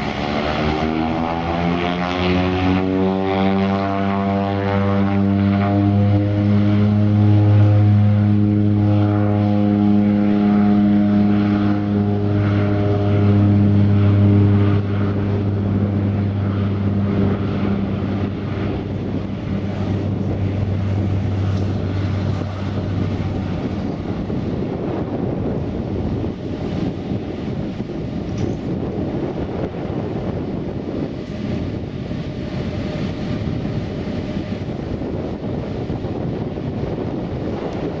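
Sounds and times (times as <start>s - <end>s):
propeller plane drone: 0.0s - 38.0s.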